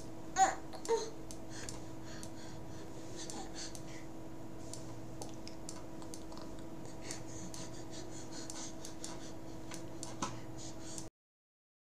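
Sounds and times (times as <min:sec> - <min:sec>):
steady electrical hum: 0:00.0 - 0:11.1.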